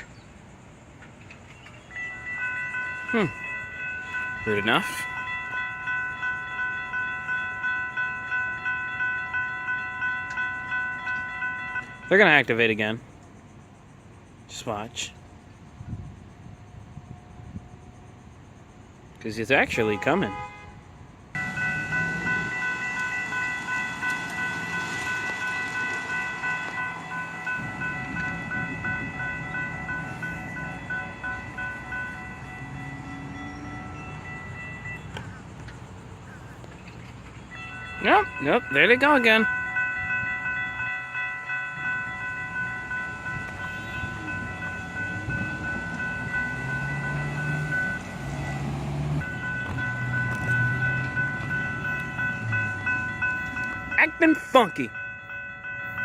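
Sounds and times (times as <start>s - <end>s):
crossing warning bell ringing: 0.0s - 56.0s.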